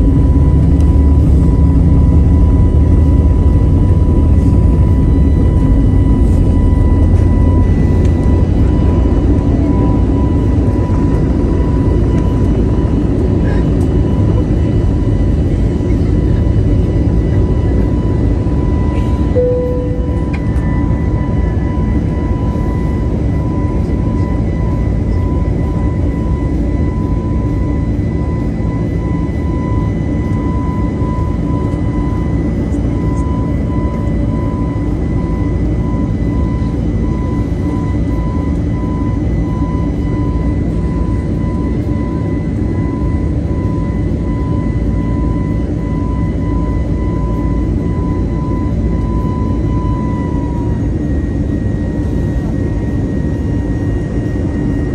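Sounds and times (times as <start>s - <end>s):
high engine whine: 0.0s - 54.9s
jet engine rumble: 0.0s - 54.9s.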